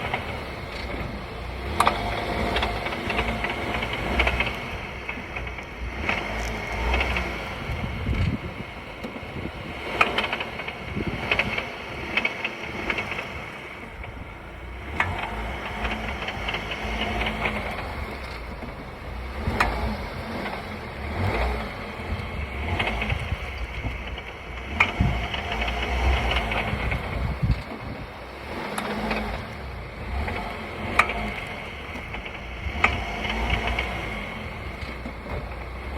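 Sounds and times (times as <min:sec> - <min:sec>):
car engine low hum: 0:00.0 - 0:35.9.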